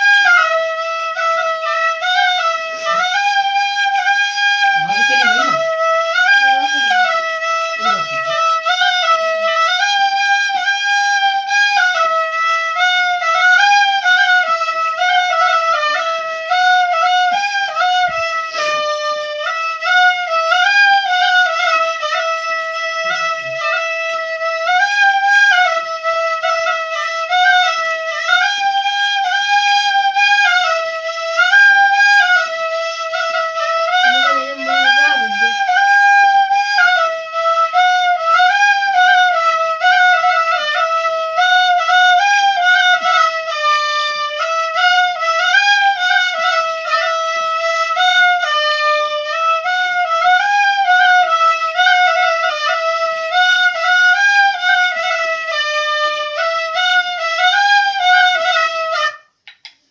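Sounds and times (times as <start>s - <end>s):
flute-like melody: 0.0s - 59.8s.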